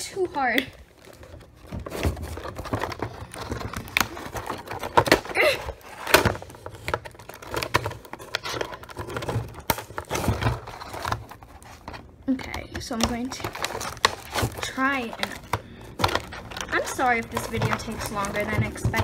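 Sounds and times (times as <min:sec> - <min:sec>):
cardboard packaging rustling: 0:00.1 - 0:19.0.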